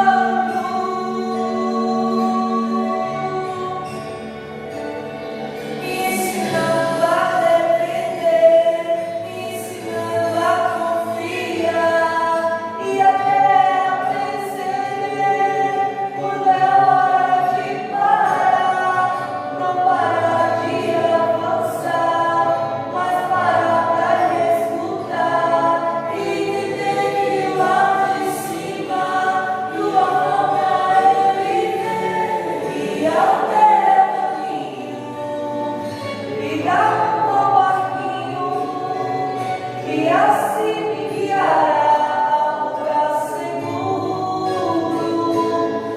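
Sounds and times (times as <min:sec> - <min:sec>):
choir singing a hymn: 0:00.0 - 0:45.9.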